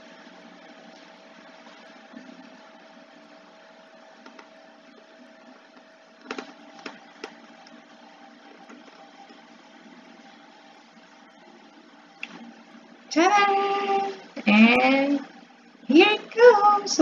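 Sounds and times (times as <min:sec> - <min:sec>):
faint background hum and hiss: 0:00.0 - 0:17.0.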